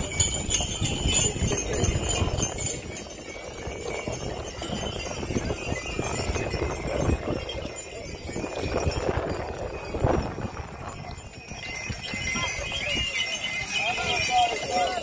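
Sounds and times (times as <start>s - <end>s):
harness bells jingling: 0.0s - 15.0s.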